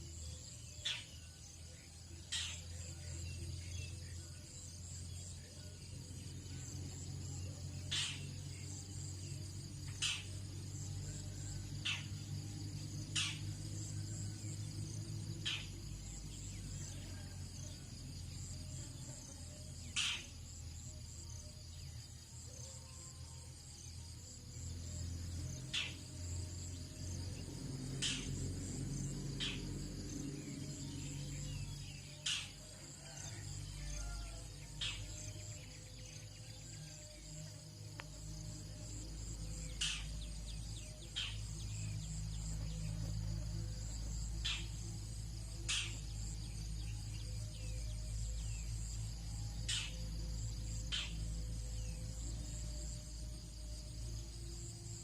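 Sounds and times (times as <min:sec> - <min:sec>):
crickets and insects trilling: 0:00.0 - 0:55.0
steady low hum: 0:00.0 - 0:55.0.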